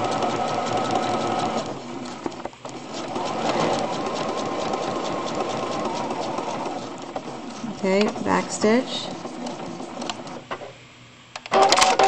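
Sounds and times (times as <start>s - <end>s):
sewing machine stitching: 0.0s - 10.4s.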